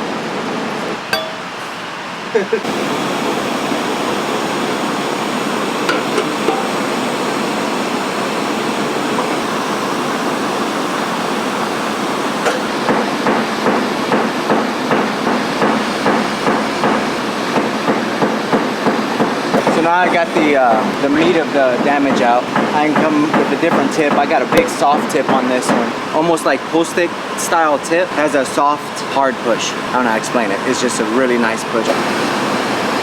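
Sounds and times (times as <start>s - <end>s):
steady hiss: 1.6s - 33.0s.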